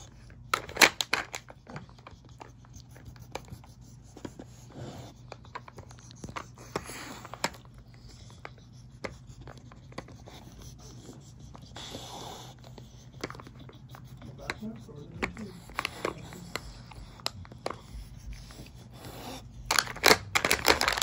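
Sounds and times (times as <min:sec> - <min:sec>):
plastic clicks and scraping: 0:00.2 - 0:04.5, 0:05.1 - 0:11.6, 0:12.6 - 0:18.8, 0:19.7 - 0:21.0
dog snuffling: 0:01.4 - 0:20.2.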